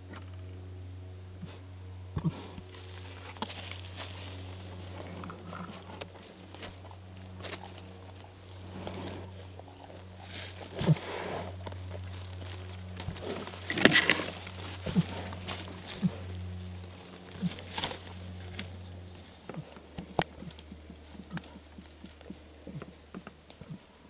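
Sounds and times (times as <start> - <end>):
steady low hum: 0.0 - 24.0
bear rustling through dry leaves: 2.6 - 22.8.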